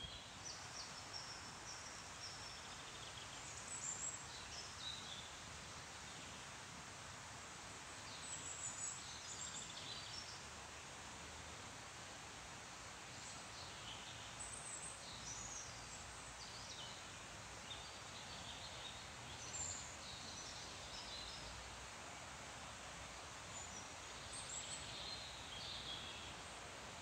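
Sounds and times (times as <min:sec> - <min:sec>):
faint hiss: 0:00.0 - 0:27.0.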